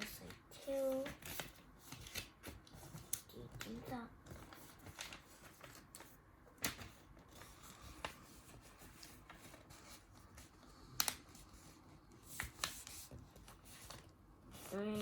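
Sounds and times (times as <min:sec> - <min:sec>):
paper being folded: 0:00.0 - 0:15.0
sharp paper crackles: 0:00.0 - 0:15.0.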